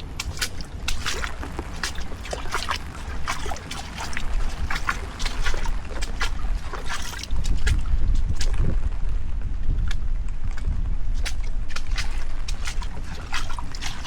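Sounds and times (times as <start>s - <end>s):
rainwater dripping and splashing: 0.0s - 14.0s
wind rumble on microphone: 0.0s - 14.0s.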